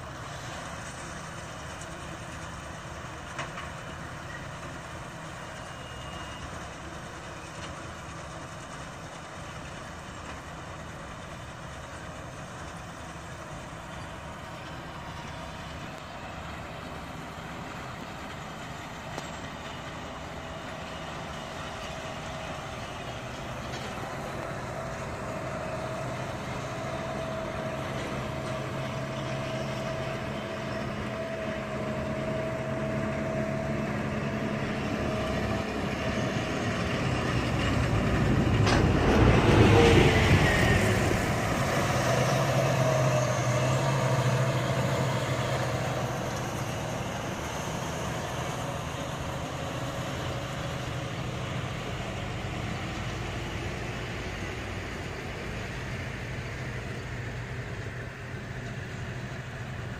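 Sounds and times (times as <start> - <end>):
steady whine of baler: 0.0 - 59.9
tractor engine running under load: 0.0 - 59.9.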